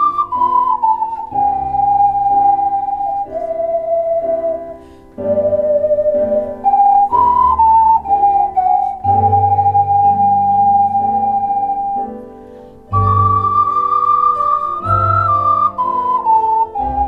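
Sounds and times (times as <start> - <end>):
lower accompaniment: 0.0 - 17.0
ocarina ensemble melody: 0.0 - 17.0.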